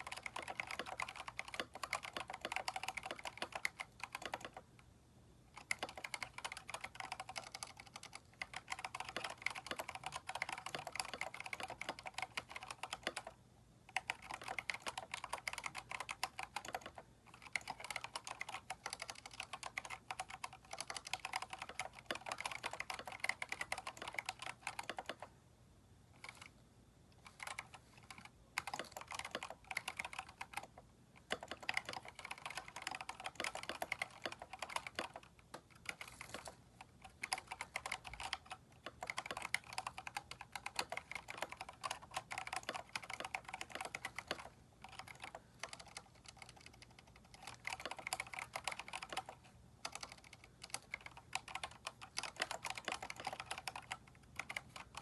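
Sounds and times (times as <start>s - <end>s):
mechanical keyboard typing: 0.0s - 4.8s, 5.5s - 25.3s, 26.2s - 26.5s, 27.2s - 55.0s.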